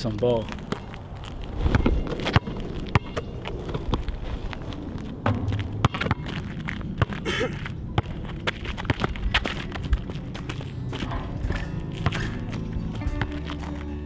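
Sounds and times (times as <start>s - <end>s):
footsteps: 0.0s - 14.0s
basketball bouncing on asphalt: 0.4s - 13.9s.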